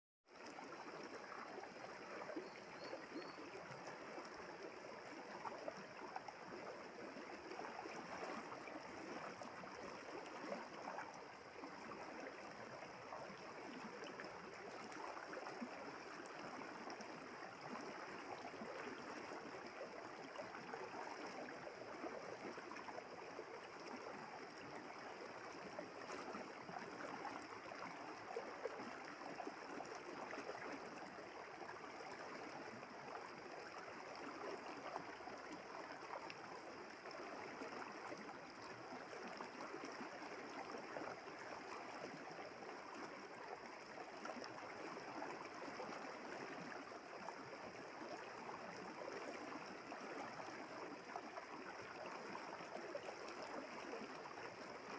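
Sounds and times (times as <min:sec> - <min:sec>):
river babbling over stones: 0:00.4 - 0:54.9.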